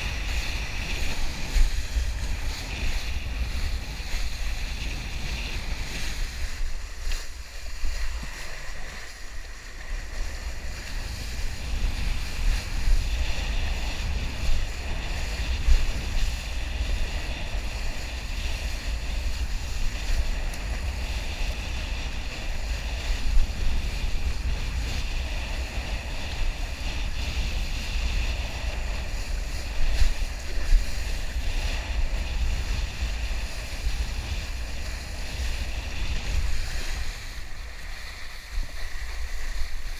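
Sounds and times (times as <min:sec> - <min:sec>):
water and spray hissing: 0:00.0 - 0:39.9
wind rumble on microphone: 0:00.0 - 0:39.9.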